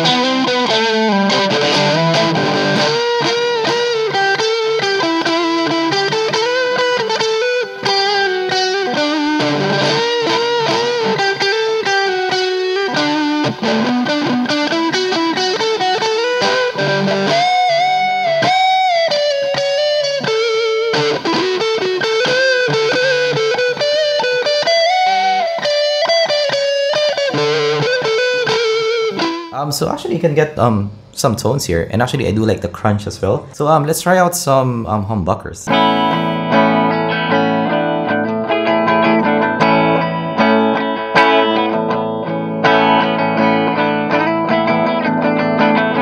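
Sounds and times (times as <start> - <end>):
overdriven electric guitar playing: 0.0 - 31.2, 35.7 - 46.0.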